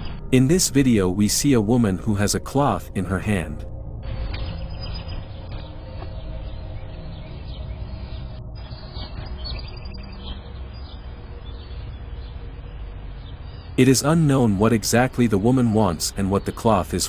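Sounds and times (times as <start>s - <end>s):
low rumble and hiss: 0.0s - 17.0s
faint bird chirps: 1.2s - 17.0s.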